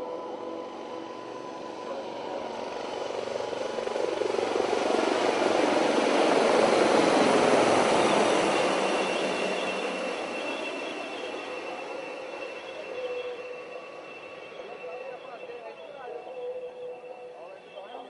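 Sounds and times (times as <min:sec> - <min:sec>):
helicopter rotor chop and turbine: 0:00.0 - 0:18.0.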